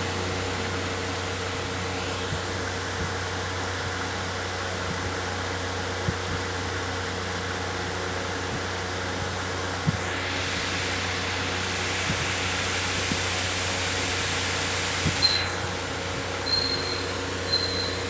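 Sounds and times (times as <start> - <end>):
electric fan running: 0.0 - 18.0.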